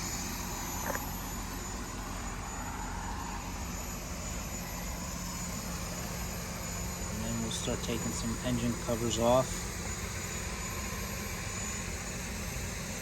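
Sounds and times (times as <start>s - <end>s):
faint high whine: 0.0s - 13.0s
machinery humming: 0.0s - 13.0s.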